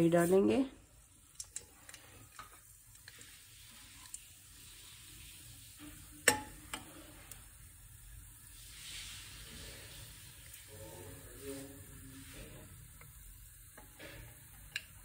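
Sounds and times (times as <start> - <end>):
seeds sizzling in hot oil: 0.0 - 15.0.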